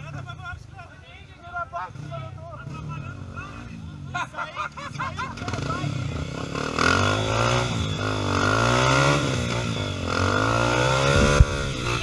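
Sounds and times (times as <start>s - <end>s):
motorcycle engine revving: 1.8s - 12.0s.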